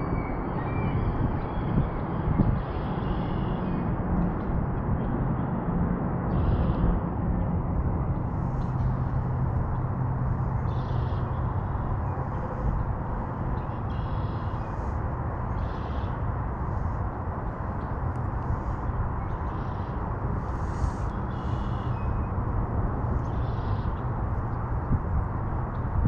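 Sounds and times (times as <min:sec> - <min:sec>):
low outdoor rumble with hum: 0:00.0 - 0:26.0.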